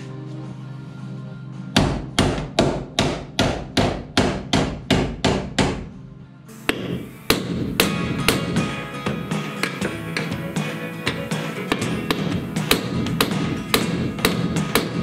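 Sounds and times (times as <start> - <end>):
hammer striking steel: 1.8 - 5.9, 6.6 - 15.0.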